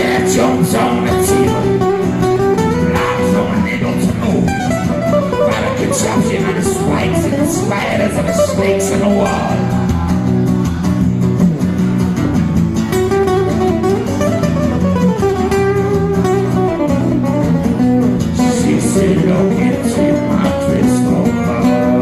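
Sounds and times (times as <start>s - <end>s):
acoustic guitar: 0.0s - 22.0s.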